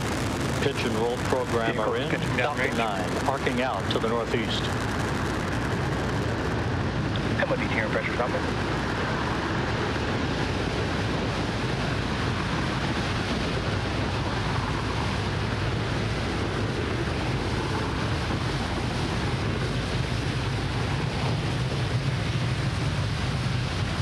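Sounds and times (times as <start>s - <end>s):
rocket engines rumbling: 0.0s - 24.0s.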